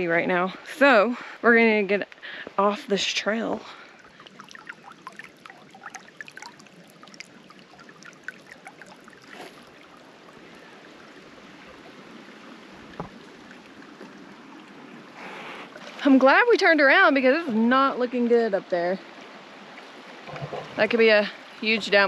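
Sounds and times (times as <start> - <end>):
creek splashing over stones: 2.7 - 22.0.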